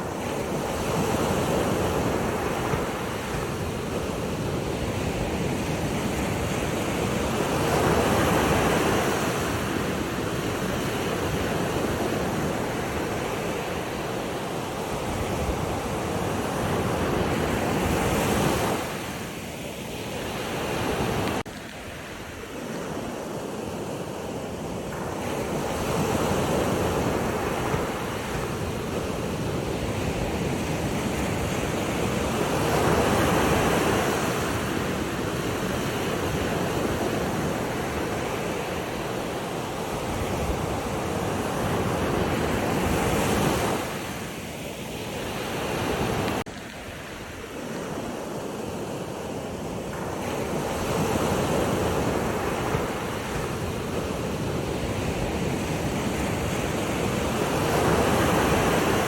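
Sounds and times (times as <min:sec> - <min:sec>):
sea waves washing in: 0:00.0 - 0:59.0
wind on microphone: 0:00.0 - 0:59.0.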